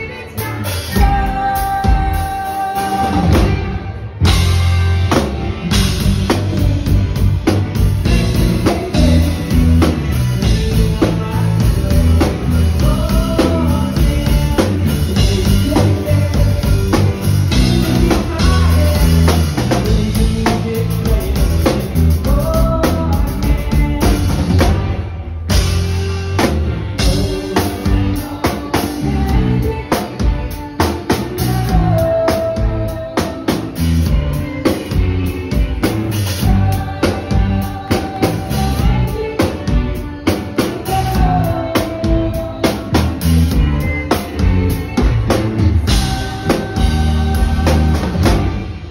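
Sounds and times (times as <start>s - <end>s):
live band playing: 0.0s - 48.9s
man singing: 0.0s - 48.9s.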